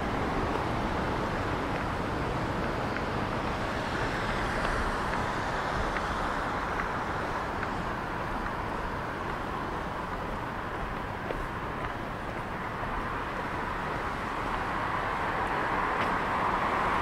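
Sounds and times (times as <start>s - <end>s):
continuous hiss: 0.0s - 17.0s.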